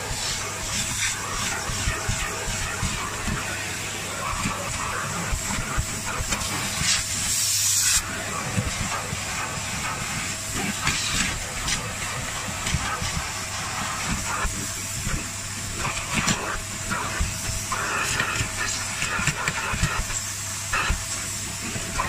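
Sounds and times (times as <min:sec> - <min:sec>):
suction hiss through hose: 0:00.0 - 0:21.8
carpet extractor motor hum: 0:00.0 - 0:22.0.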